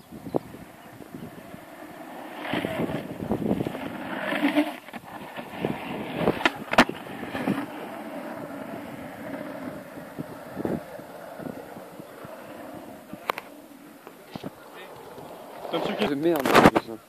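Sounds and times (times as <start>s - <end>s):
longboard wheels rolling on asphalt: 0.0s - 17.0s.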